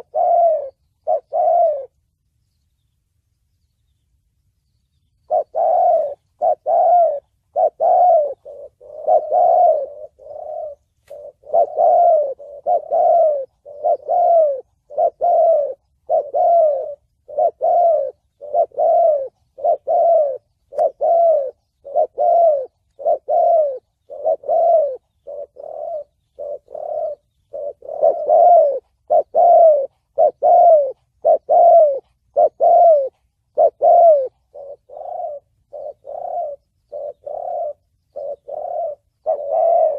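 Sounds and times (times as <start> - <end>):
dove cooing: 0.0 - 2.2, 5.2 - 39.9.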